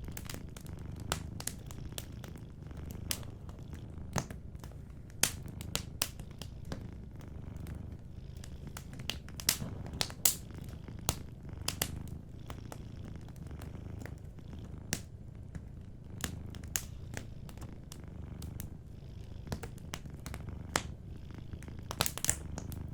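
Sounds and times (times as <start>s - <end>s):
cat purring: 0.0s - 22.9s
wood fire crackling: 0.0s - 22.9s.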